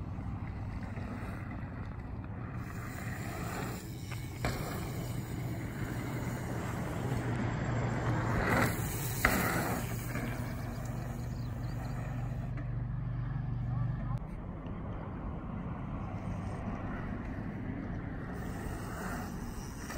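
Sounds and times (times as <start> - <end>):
bicycle tyres rolling on dirt: 0.0 - 13.6, 15.8 - 19.9
steady low rumble: 0.0 - 19.9.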